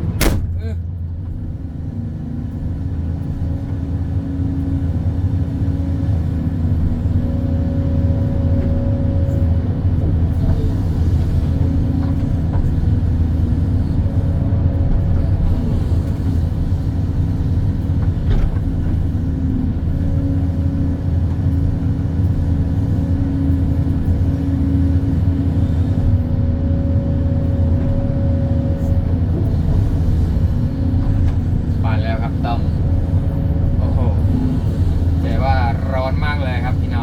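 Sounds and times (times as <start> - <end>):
diesel engine hum: 0.0 - 37.0.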